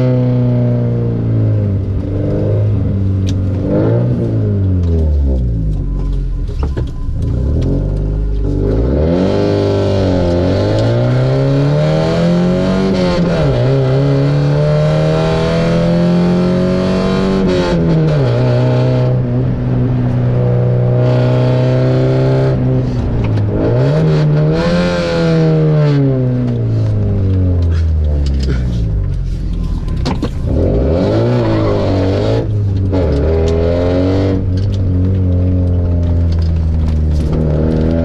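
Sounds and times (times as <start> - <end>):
car engine revving through gears: 0.0 - 38.0.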